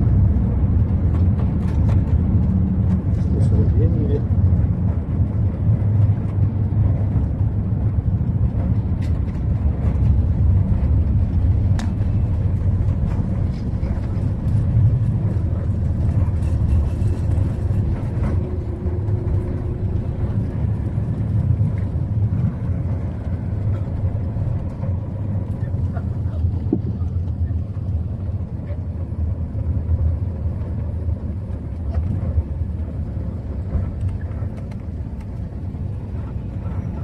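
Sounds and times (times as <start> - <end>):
aircraft cabin rumble: 0.0 - 37.0.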